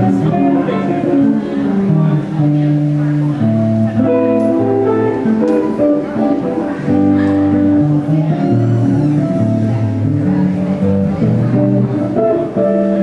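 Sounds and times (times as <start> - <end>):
electric guitar melody: 0.0 - 13.0
low bass line: 0.0 - 13.0.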